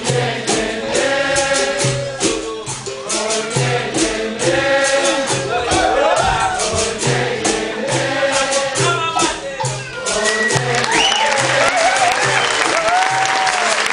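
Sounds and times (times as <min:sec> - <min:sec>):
group singing in chorus: 0:00.0 - 0:13.0
tambourine and drum beat: 0:00.0 - 0:13.6.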